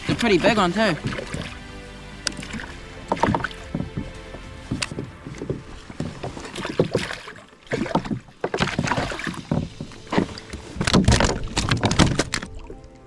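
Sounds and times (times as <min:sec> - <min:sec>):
knocks and rattles on kayak: 0:00.0 - 0:01.6, 0:02.3 - 0:12.8
water splashing: 0:00.0 - 0:13.0.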